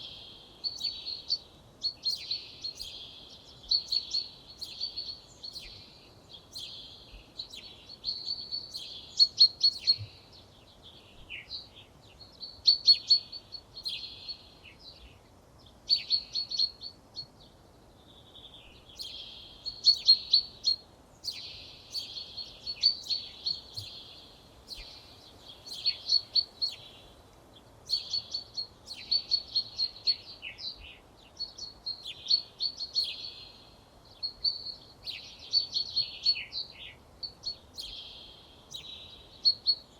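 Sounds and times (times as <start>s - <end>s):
faint background hiss: 0.0s - 39.9s
songbird singing: 0.0s - 39.9s.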